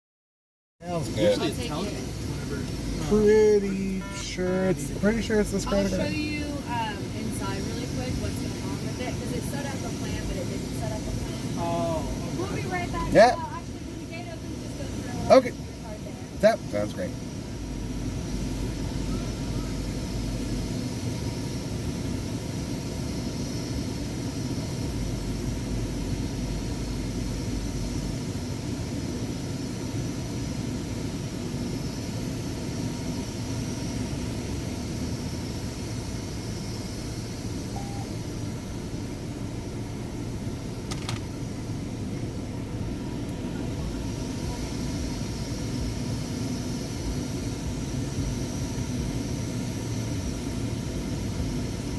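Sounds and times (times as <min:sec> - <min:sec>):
car wash machinery droning: 0:00.8 - 0:51.9.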